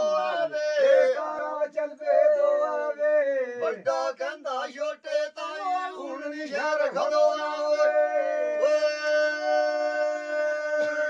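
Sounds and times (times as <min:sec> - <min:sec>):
men singing unaccompanied folk song: 0:00.0 - 0:11.0.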